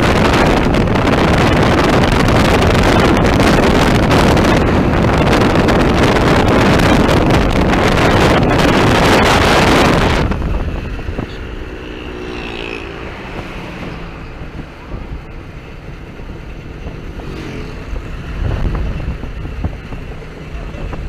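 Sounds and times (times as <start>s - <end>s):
street traffic: 0.0s - 21.0s
vehicle engine running: 0.0s - 21.0s
wind buffeting microphone: 0.0s - 21.0s.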